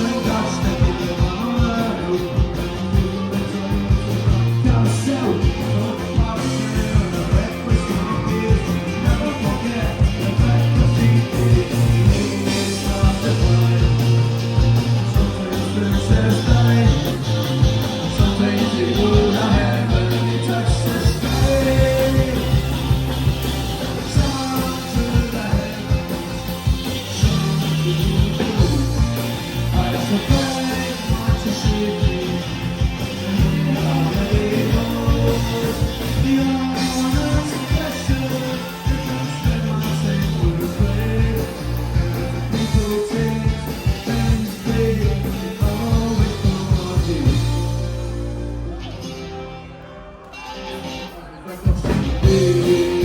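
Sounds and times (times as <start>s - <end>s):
person singing: 0.0s - 47.9s, 50.4s - 53.0s
steady drum beat: 0.0s - 48.6s, 51.6s - 53.0s
live rock band playing: 0.0s - 53.0s.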